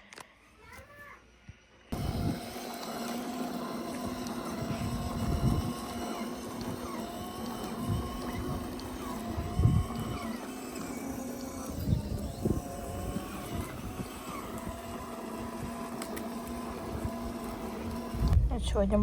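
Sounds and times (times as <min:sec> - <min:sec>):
steady mechanical hum: 0:00.0 - 0:19.0
wind buffeting microphone: 0:02.0 - 0:02.6, 0:04.0 - 0:19.0.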